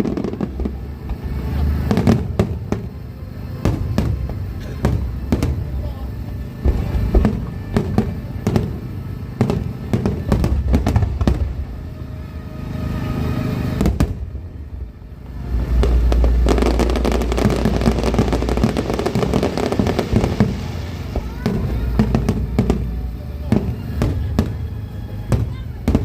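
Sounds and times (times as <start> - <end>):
crackling firework bursts: 0.0 - 26.0
fireworks bangs: 0.0 - 26.0
heavy low rumble: 0.0 - 26.0.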